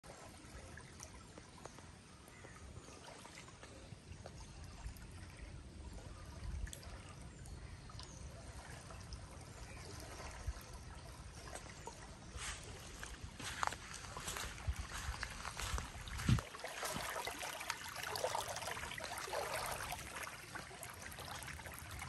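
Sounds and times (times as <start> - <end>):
ripples lapping against shore: 0.0 - 22.0
small water splashes: 0.0 - 22.0.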